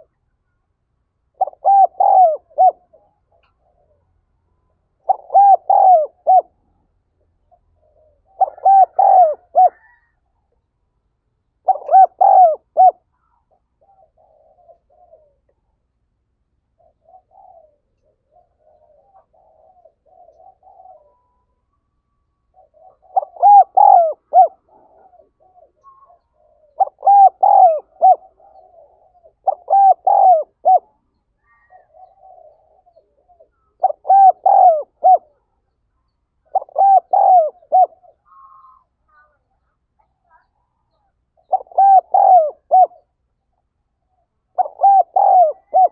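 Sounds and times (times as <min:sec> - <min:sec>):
dove cooing: 0:01.3 - 0:04.2, 0:05.0 - 0:10.4, 0:11.6 - 0:15.8, 0:16.7 - 0:21.7, 0:22.4 - 0:35.6, 0:36.4 - 0:43.2, 0:44.0 - 0:45.9.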